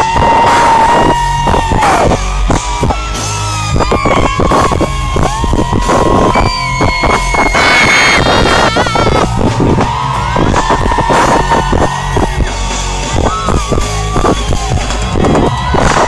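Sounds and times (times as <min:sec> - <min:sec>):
drums: 0:00.0 - 0:16.0.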